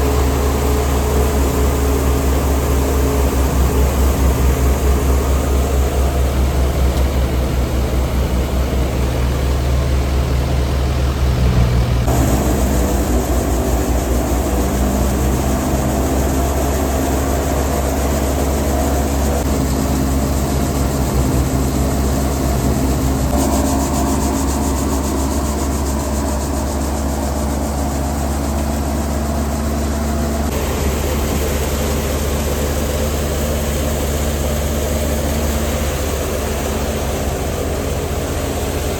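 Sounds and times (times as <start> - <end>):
thresher machine drone: 0.0 - 38.9.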